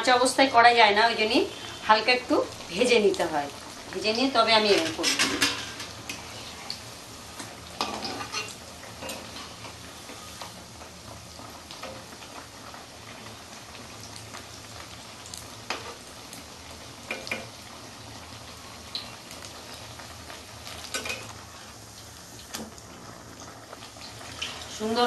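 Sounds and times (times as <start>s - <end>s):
food deep-frying in hot oil: 0.0s - 25.0s.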